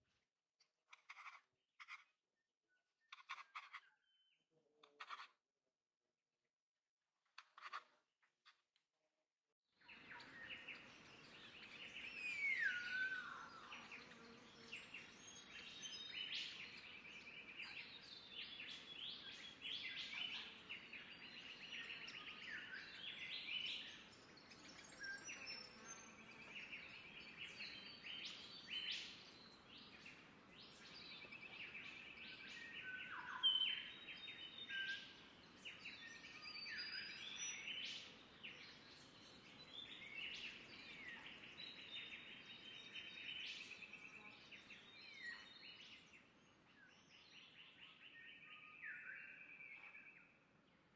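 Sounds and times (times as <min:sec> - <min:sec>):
forest birds chirping: 0:02.8 - 0:05.3, 0:09.8 - 0:50.9.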